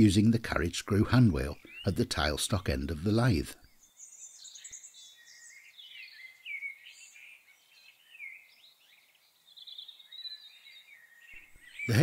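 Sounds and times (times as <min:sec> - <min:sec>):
faint birdsong chirping: 0:00.0 - 0:12.0.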